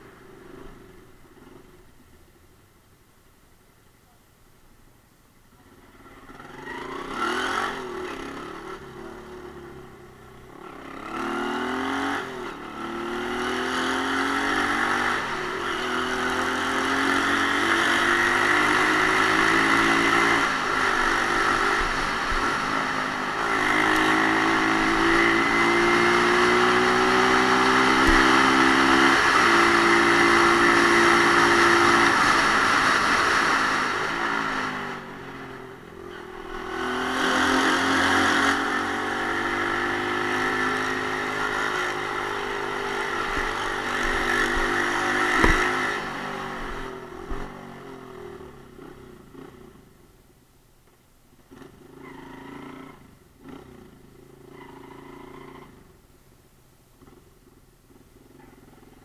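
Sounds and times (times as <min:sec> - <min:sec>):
motorcycle engine accelerating: 0:05.5 - 0:50.2, 0:51.4 - 0:56.0, 0:57.0 - 0:59.0.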